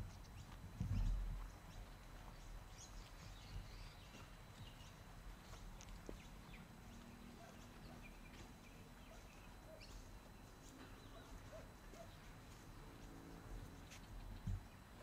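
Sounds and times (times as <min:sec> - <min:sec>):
faint bird chirps: 0:00.1 - 0:12.3.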